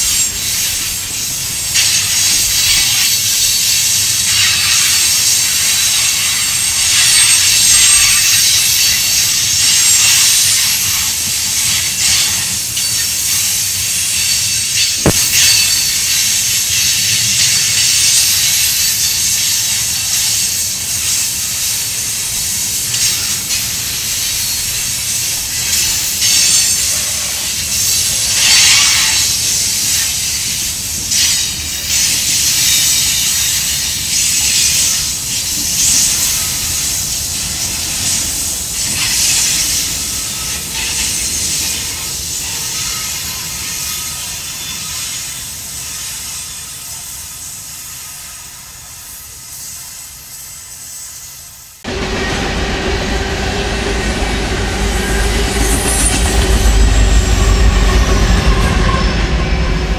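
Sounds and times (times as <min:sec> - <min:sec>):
diesel locomotives passing: 0:00.0 - 0:59.9
train wheels rumbling on rail: 0:00.0 - 0:59.9.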